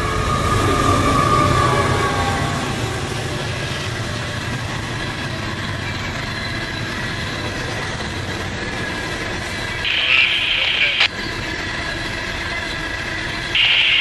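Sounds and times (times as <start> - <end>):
locomotive engine: 0.0 - 14.0
train wheels rumbling on rails: 0.0 - 14.0.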